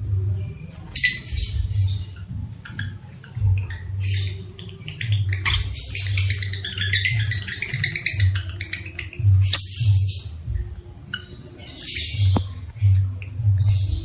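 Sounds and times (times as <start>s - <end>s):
lovebird chattering: 0.9s - 12.7s.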